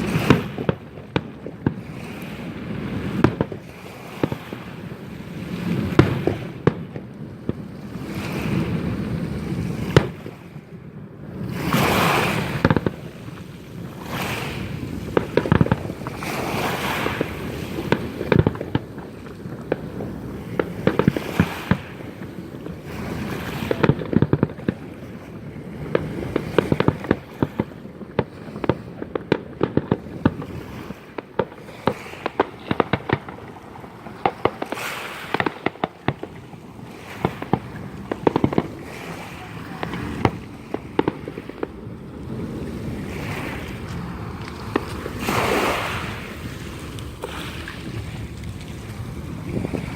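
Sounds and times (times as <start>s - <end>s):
fireworks banging and crackling: 0.0s - 49.9s.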